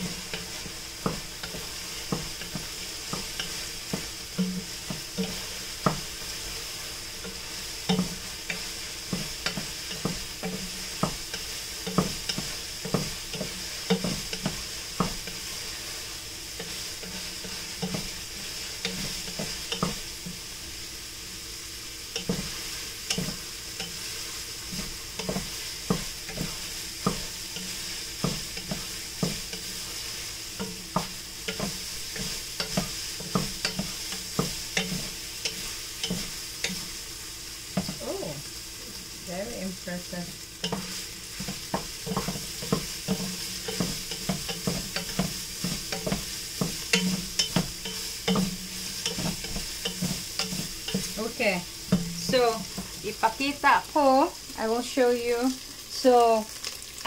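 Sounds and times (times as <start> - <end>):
wooden spoon scraping a pot: 0.0 - 16.0, 16.6 - 20.4, 22.1 - 37.0, 40.6 - 53.2
meat sizzling in a pot: 0.0 - 57.0.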